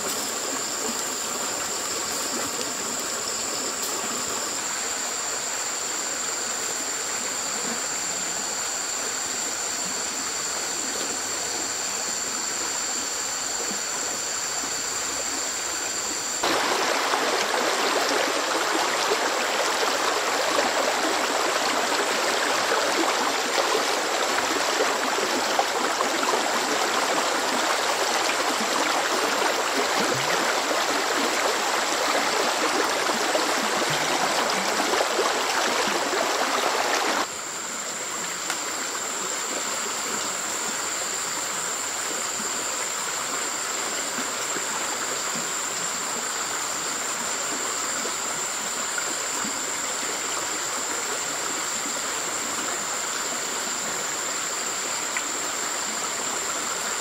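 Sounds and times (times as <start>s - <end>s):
water running in a stream: 0.0s - 57.0s.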